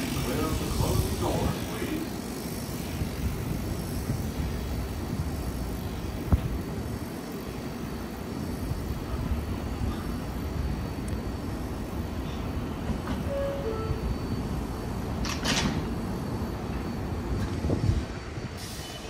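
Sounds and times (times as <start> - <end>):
train equipment low rumble: 0.0 - 19.0.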